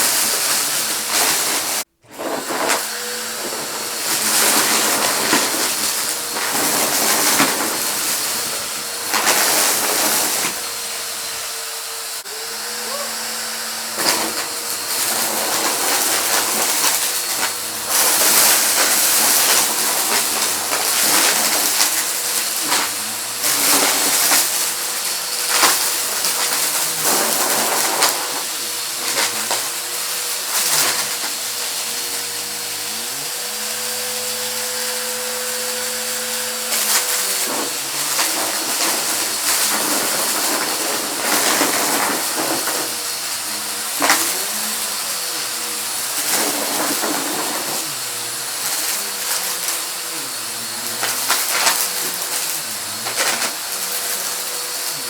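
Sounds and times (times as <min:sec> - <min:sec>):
debris clattering through vacuum: 0:00.0 - 0:55.0
vacuum cleaner running: 0:00.0 - 0:55.0.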